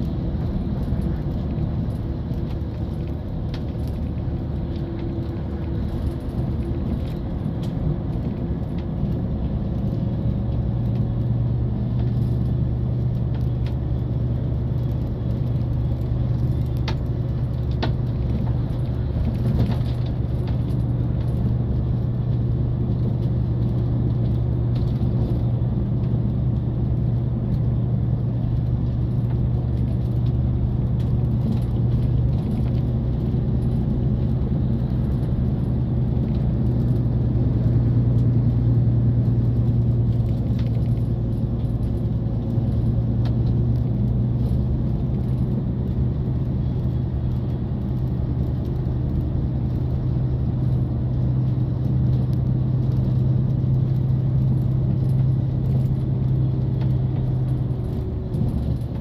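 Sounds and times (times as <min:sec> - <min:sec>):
vehicle drone inside cabin: 0:00.0 - 0:59.0.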